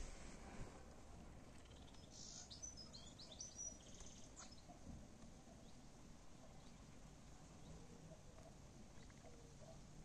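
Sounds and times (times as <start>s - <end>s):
faint outdoor ambience: 0.0s - 10.0s
songbird chirping: 0.0s - 10.0s.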